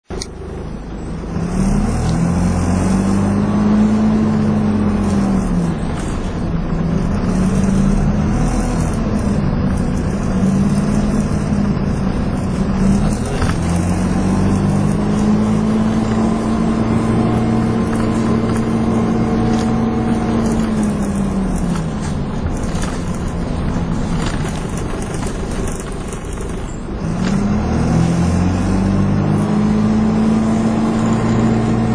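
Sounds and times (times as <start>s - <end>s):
bus engine and drivetrain whine: 0.0s - 31.9s.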